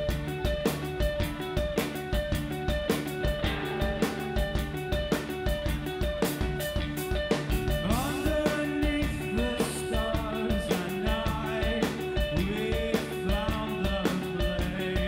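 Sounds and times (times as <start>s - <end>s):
driving drum beat: 0.0s - 15.0s
electric guitars picking patterns: 0.0s - 15.0s.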